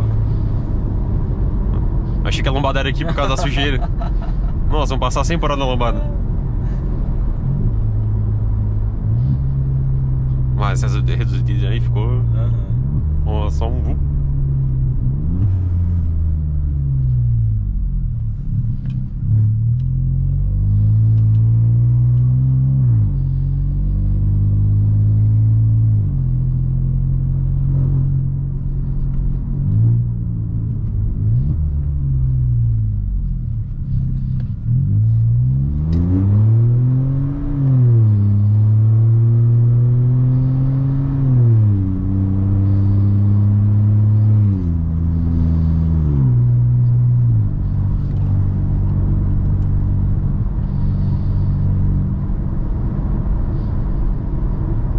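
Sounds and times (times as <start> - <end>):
car engine drone with open exhaust: 0.0 - 54.9.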